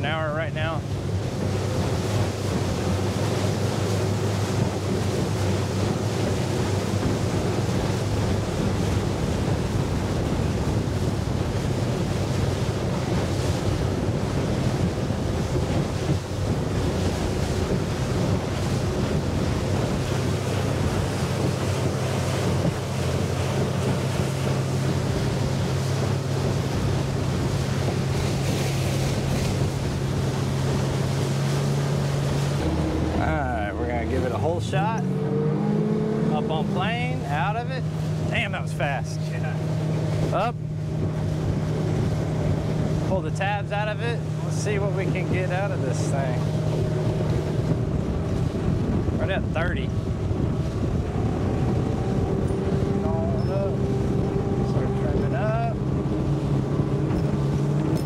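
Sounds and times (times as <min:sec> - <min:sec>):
boat hull through chop: 0:00.0 - 0:58.0
outboard engine hum: 0:00.0 - 0:58.0
wind on microphone: 0:00.0 - 0:58.0.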